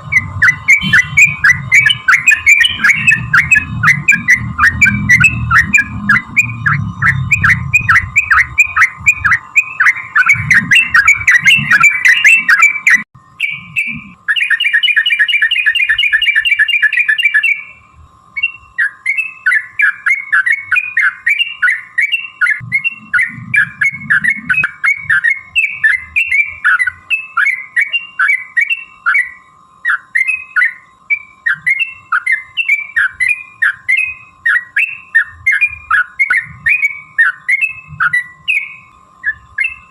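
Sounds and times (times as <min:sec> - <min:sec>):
bird chattering calls: 0:00.0 - 0:17.8, 0:18.4 - 0:39.9
faint steady hum: 0:00.0 - 0:39.9
fast rolling bird trill: 0:00.0 - 0:39.9.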